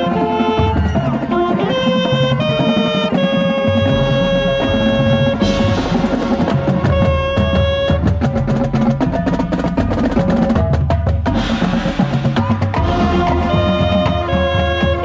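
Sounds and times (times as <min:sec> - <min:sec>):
drumline strikes: 0:00.0 - 0:15.0
marching band playing: 0:00.0 - 0:15.0.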